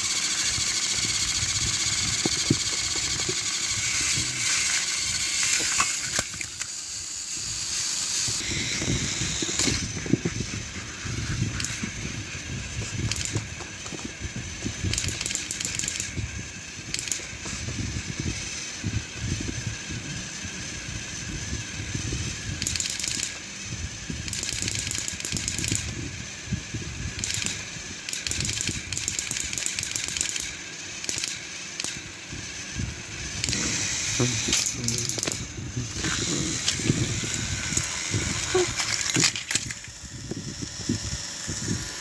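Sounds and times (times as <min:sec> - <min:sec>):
fast clicking: 0:00.0 - 0:06.8, 0:07.5 - 0:12.1, 0:12.7 - 0:16.3, 0:16.9 - 0:17.8, 0:22.2 - 0:23.5, 0:24.2 - 0:26.0, 0:27.0 - 0:42.0
toy train motors whirring: 0:00.0 - 0:42.0.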